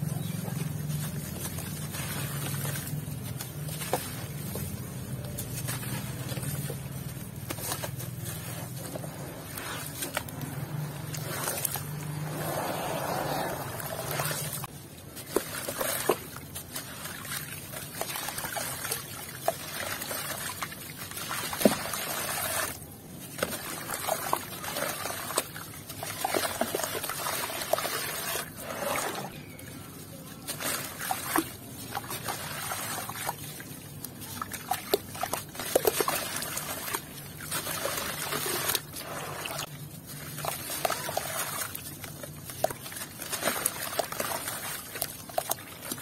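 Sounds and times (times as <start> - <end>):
water sloshing: 0.0 - 46.0
wet grit trickling: 0.0 - 46.0.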